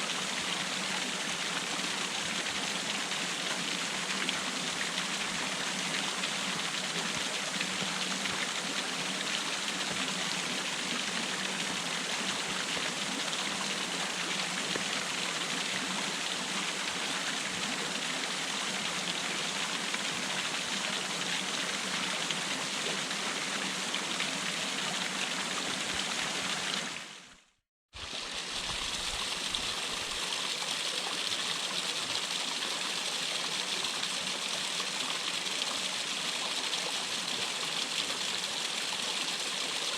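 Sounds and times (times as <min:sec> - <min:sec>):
water rushing down cascade: 0:00.0 - 0:27.2, 0:28.0 - 0:39.9.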